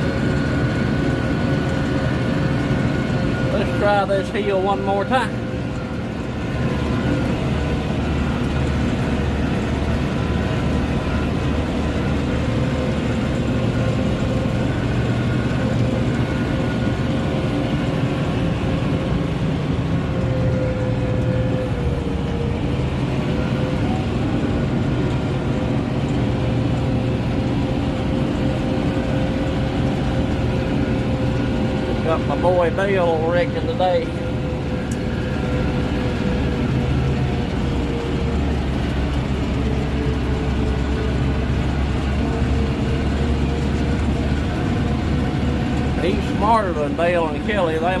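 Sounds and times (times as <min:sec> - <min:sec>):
steady whine: 0:00.0 - 0:48.0
tractor engine running: 0:00.0 - 0:48.0.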